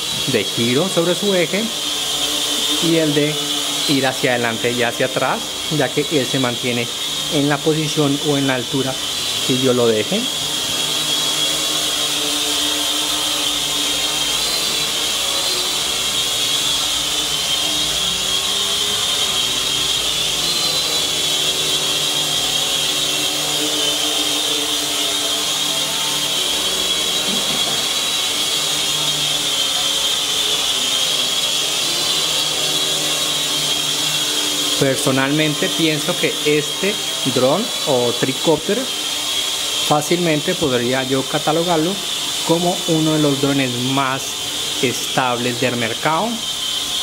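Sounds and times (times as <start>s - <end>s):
drone propellers whining: 0.0s - 47.0s.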